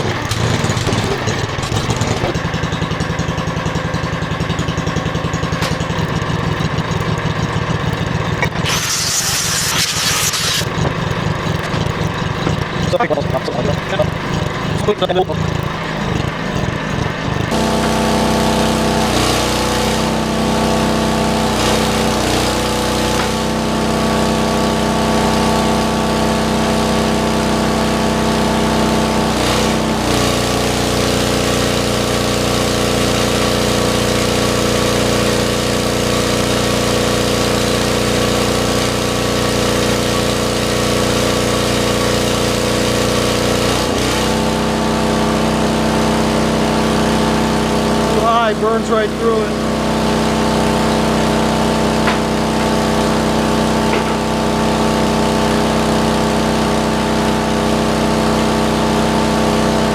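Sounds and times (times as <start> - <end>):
welder engine running: 0.0 - 59.9.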